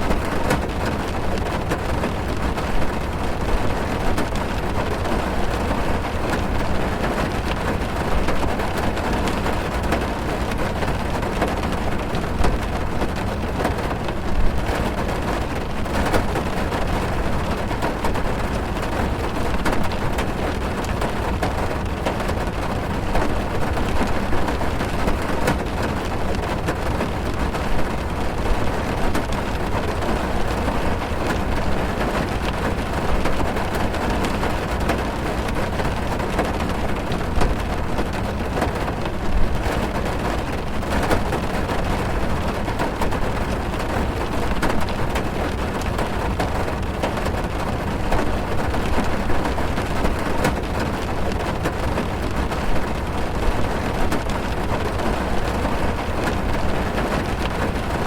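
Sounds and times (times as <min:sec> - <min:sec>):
rain drumming on car roof: 0:00.0 - 0:58.0.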